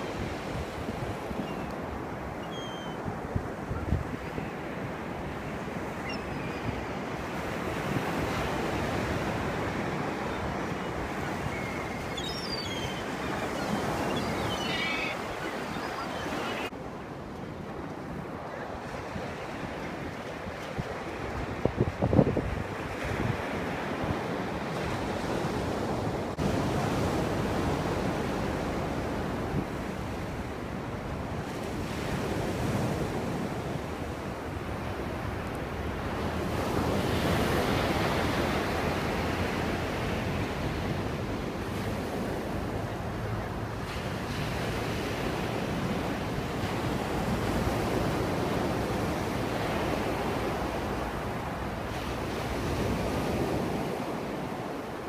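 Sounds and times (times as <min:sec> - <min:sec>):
surf washing up a beach: 0:00.0 - 0:55.0.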